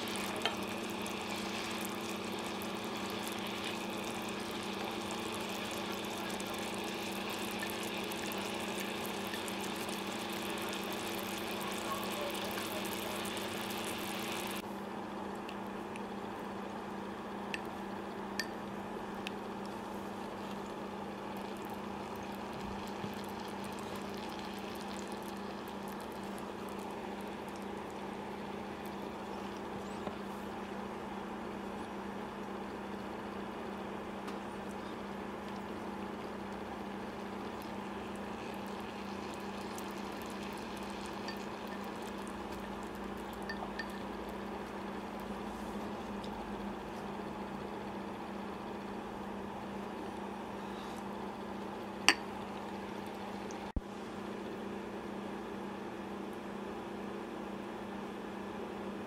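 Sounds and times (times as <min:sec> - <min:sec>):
pan simmering and bubbling: 0:00.0 - 0:58.7
steady hum: 0:00.0 - 0:59.0.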